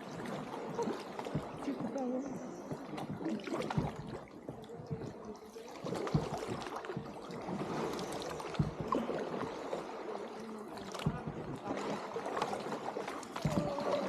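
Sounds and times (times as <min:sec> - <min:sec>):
boat knocks: 0:00.0 - 0:14.0
water splashing and trickling: 0:00.0 - 0:14.0.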